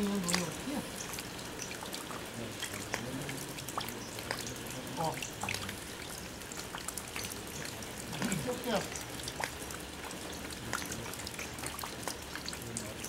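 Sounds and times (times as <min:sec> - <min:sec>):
distant voices talking: 0:00.0 - 0:13.0
steady outdoor hiss: 0:00.0 - 0:13.0.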